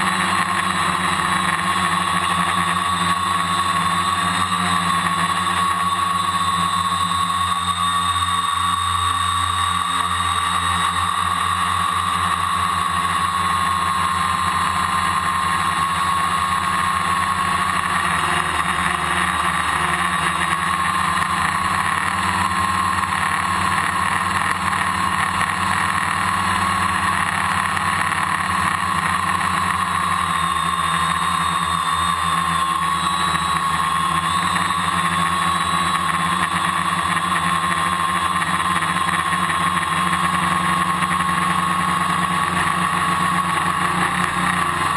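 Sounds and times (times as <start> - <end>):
drone motors humming: 0.0 - 44.9.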